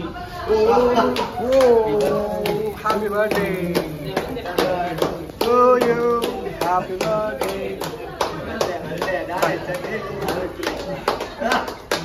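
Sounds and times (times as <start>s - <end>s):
men's voices: 0.0s - 11.7s
group clapping in rhythm: 0.6s - 12.0s.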